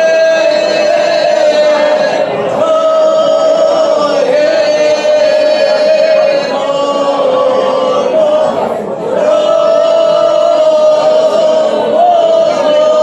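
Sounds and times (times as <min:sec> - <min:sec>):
women singing in harmony: 0:00.0 - 0:13.0.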